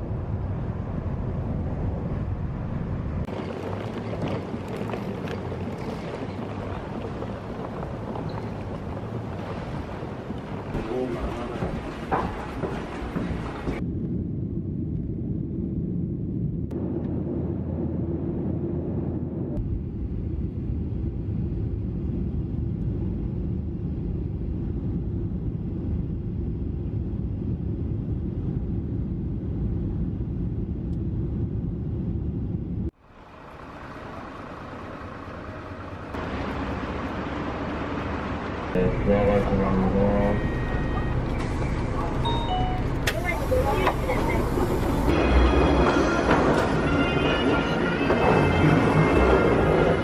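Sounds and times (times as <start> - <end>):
jet engine cabin rumble: 0.0 - 36.7, 38.0 - 45.2
outdoor hum: 0.0 - 50.0.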